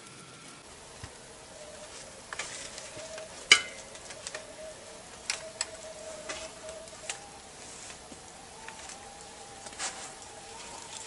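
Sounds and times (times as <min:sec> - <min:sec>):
wood crackling and snapping: 0:00.0 - 0:11.0.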